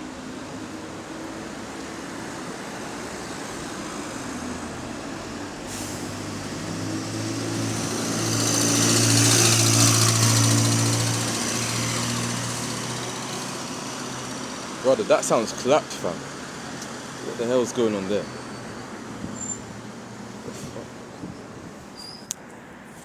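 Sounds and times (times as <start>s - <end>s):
bus engine passing: 0.0s - 22.0s.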